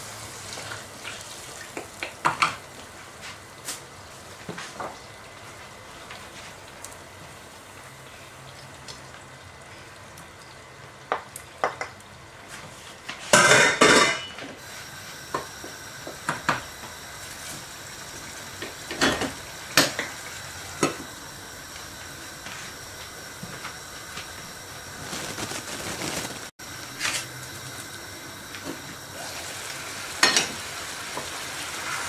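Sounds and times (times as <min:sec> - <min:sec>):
low sizzle: 0:00.0 - 0:32.0.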